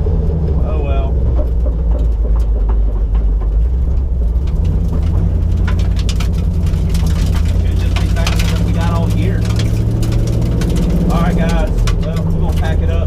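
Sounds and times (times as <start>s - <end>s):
car engine drone from cabin: 0.0s - 13.0s
light clicks and rattles: 1.3s - 13.0s.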